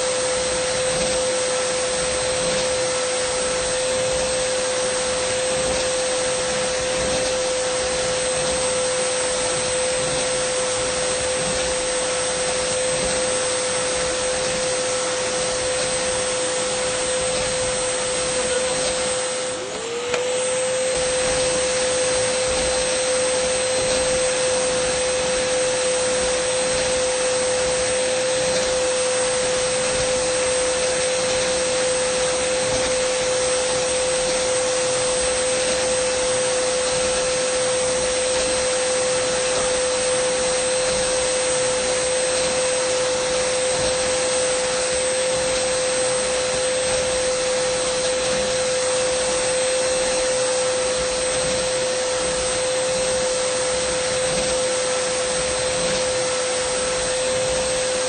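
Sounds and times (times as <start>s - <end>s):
vacuum cleaner whining: 0.0s - 58.0s.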